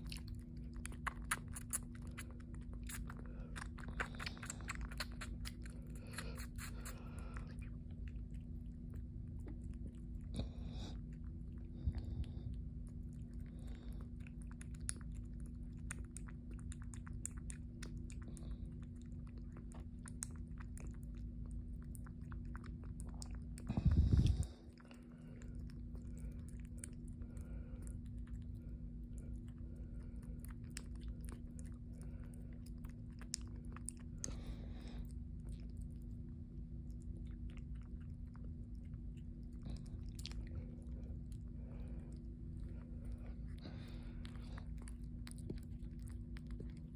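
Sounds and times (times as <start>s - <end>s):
kitten suckling wet clicks: 0.0s - 46.9s
steady low hum: 0.0s - 46.9s.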